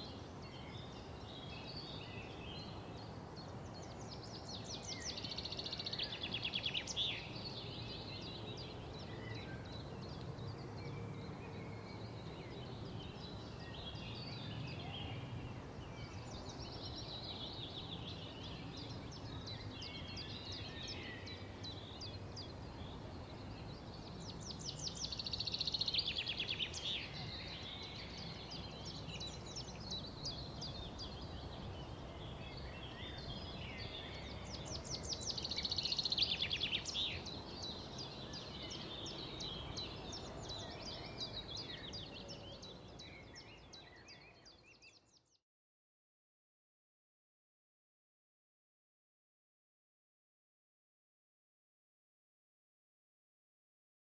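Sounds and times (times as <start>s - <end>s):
songbirds chirping and trilling: 0.0s - 45.4s.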